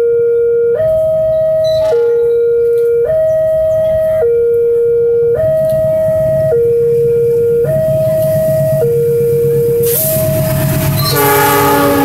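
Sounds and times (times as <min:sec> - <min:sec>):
two-tone crossing alarm: 0:00.0 - 0:12.0.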